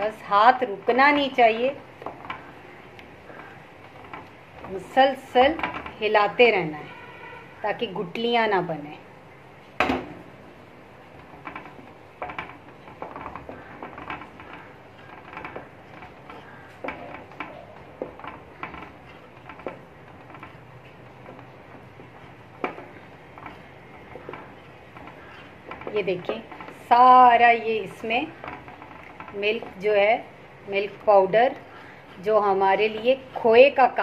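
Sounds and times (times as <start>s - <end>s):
wooden spatula scraping metal pot: 0.0s - 9.1s, 10.2s - 34.0s.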